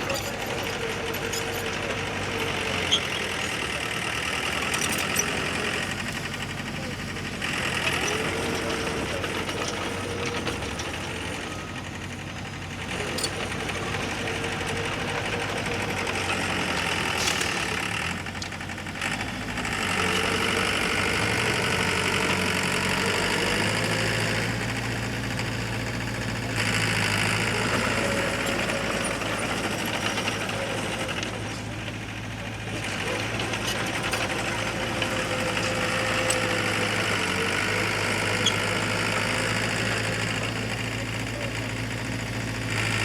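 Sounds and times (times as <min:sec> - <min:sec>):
heavy machinery diesel engine: 0:00.0 - 0:43.0.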